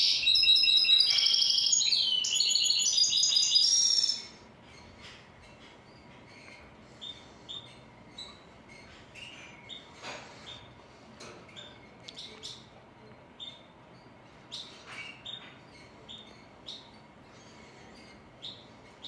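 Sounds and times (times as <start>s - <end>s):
bird singing twittering song: 0.0s - 9.9s, 13.4s - 19.0s.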